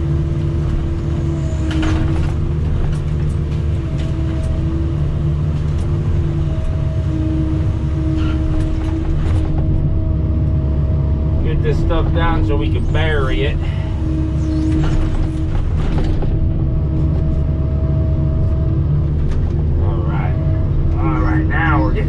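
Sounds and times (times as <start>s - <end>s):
excavator diesel engine under load: 0.0s - 22.0s
hydraulic whine: 0.0s - 22.0s.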